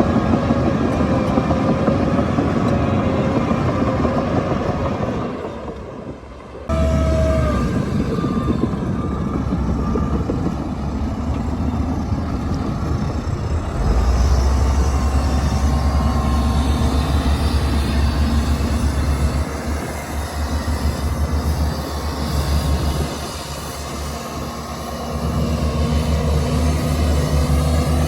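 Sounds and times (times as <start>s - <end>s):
bulldozer diesel engine: 0.0s - 28.0s
steel tracks rattling: 0.0s - 28.0s.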